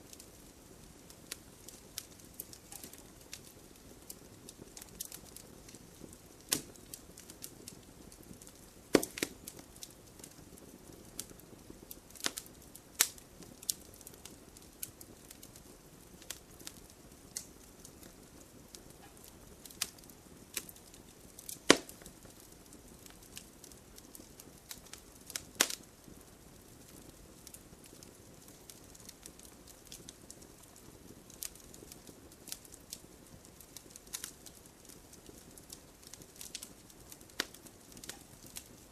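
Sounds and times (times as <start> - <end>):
campfire crackling and popping: 0.0 - 38.9
hiss of flames: 0.0 - 38.9.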